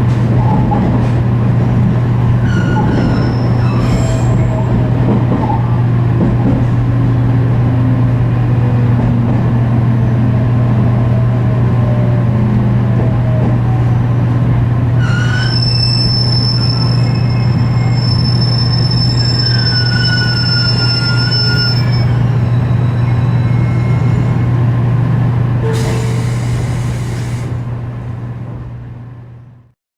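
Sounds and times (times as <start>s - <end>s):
deep train motor hum: 0.0s - 29.7s.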